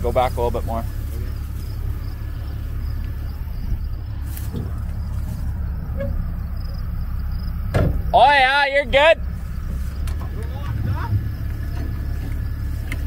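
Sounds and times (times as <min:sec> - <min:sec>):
diesel pickup engine idling: 0:00.0 - 0:13.0.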